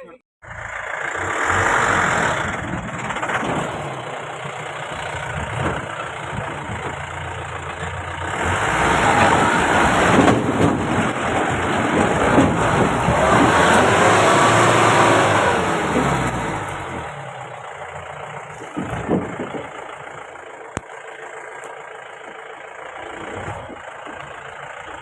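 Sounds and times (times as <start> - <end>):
diesel engine running: 0.0 - 25.0
heavy road noise: 0.0 - 25.0.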